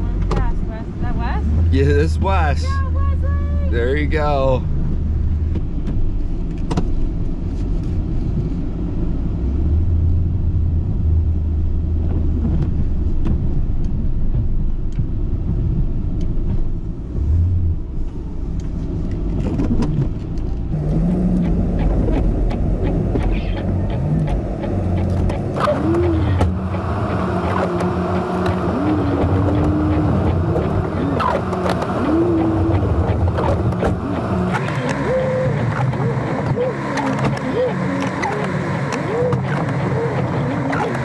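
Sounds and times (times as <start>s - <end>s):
truck engine rumble: 0.0s - 41.0s.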